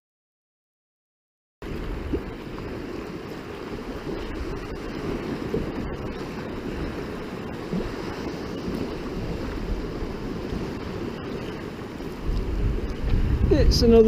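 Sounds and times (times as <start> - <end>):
sea waves: 1.6 - 14.0
wind rumbling on microphone: 1.6 - 14.0.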